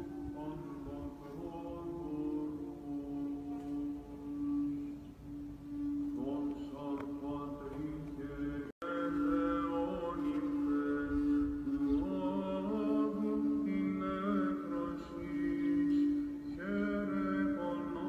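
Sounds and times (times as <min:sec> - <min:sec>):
chant-like singing: 0:00.0 - 0:18.0.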